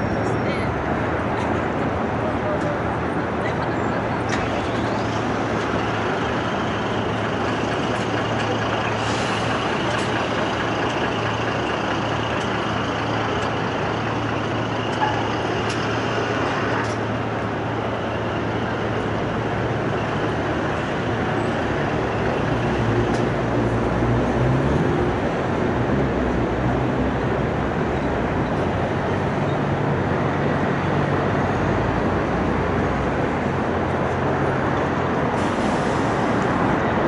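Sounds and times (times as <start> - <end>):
city road traffic: 0.0 - 37.0
heavy vehicle engine hum: 0.0 - 37.0.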